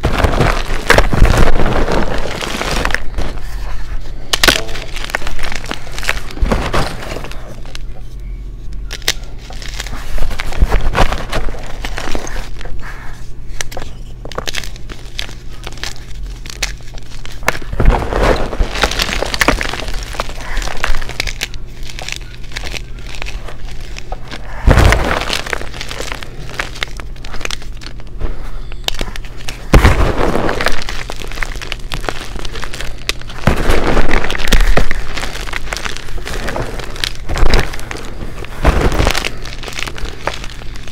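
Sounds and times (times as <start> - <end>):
chalk crunching and crackling: 0.0 - 40.9.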